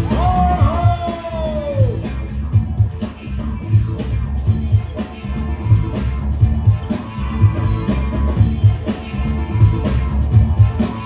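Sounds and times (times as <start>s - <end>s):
loud breakbeat music: 0.0s - 11.0s.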